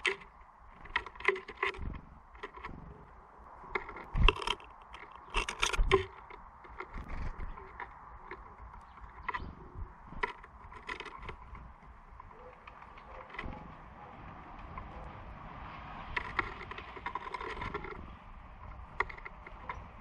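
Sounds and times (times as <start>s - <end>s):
birds tapping on wooden feeder: 0.0s - 20.0s.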